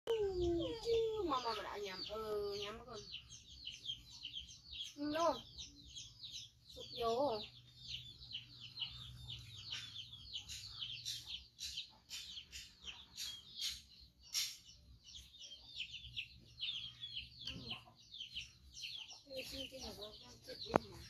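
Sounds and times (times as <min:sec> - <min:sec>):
birds chirping high peeps: 0:00.1 - 0:21.0.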